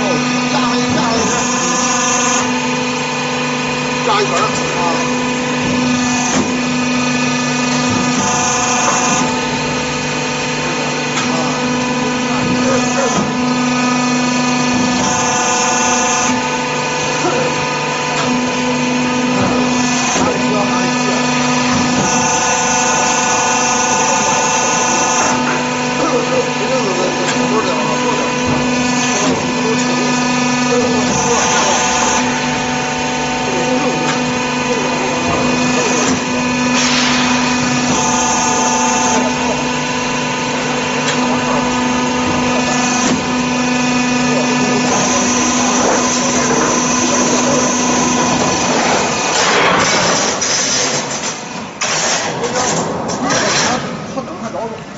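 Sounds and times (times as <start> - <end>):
press machine humming: 0.0 - 54.9.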